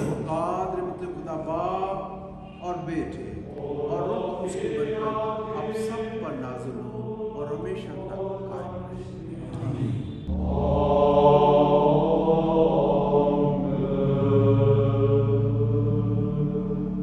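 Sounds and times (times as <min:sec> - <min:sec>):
chanted singing with music: 0:00.0 - 0:17.0
long held notes over low drone: 0:00.0 - 0:17.0.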